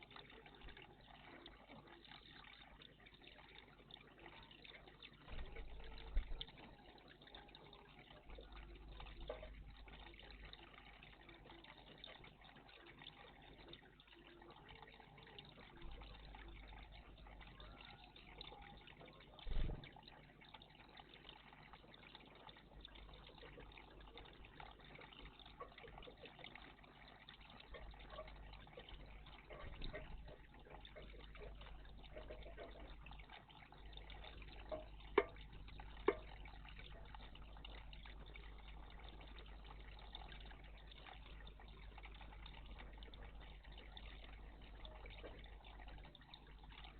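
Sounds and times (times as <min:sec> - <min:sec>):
water trickling: 0:00.0 - 0:46.9.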